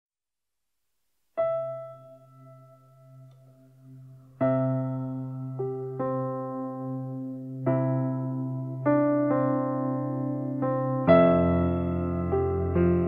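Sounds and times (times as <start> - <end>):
slow piano chords: 1.4 - 13.0.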